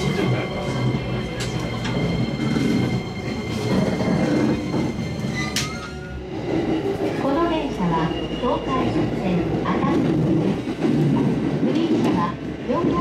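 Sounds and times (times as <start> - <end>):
train humming: 0.0 - 13.0.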